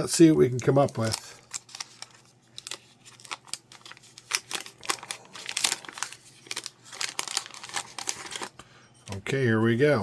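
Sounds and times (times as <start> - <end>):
wax paper wrapper crinkling: 0.1 - 8.6.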